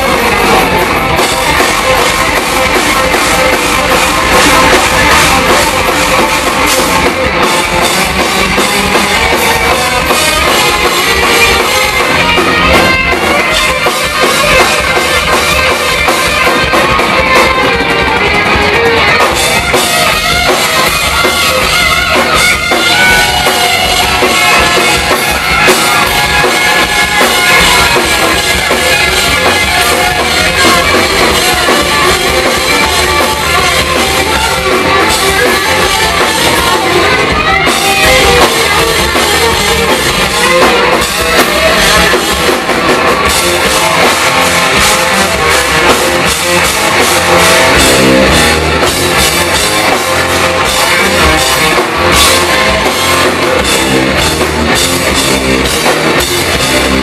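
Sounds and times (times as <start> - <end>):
drum kit: 0.0 - 57.0
electric guitars: 0.0 - 57.0.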